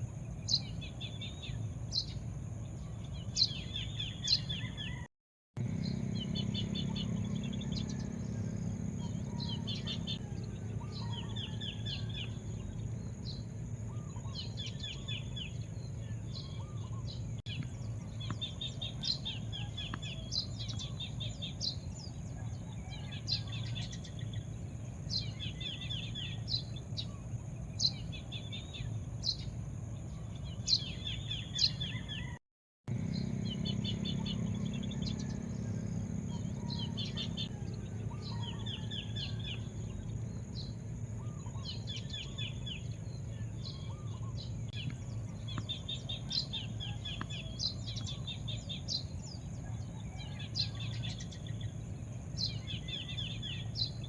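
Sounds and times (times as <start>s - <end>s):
birds chirping: 0.0s - 54.0s
low background rumble: 5.6s - 32.2s, 32.9s - 54.0s.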